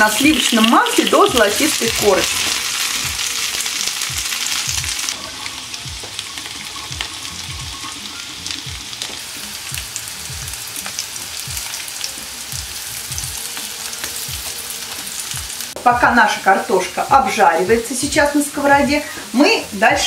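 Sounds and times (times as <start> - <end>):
potatoes sizzling in a pan: 0.0 - 20.0.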